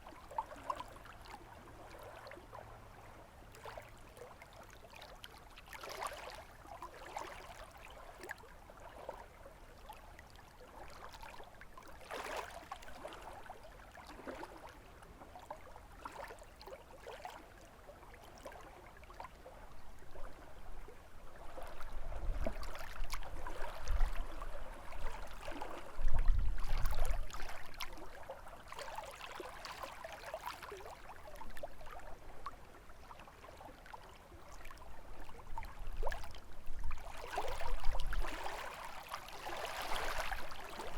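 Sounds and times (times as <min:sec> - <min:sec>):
lake waves lapping at shore: 0:00.0 - 0:40.9.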